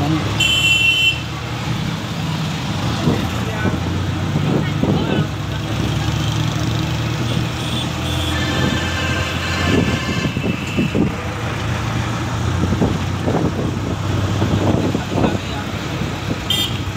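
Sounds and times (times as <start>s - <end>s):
vehicle engine and road noise: 0.0s - 16.9s.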